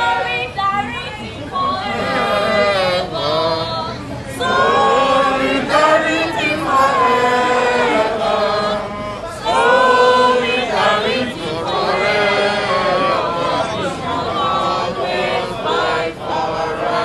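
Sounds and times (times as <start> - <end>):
crowd singing together: 0.0 - 17.0.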